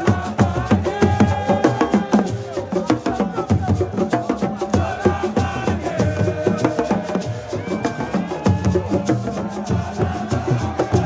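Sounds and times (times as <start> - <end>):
fast dense drumming: 0.0 - 11.0
person singing or calling: 0.0 - 11.0.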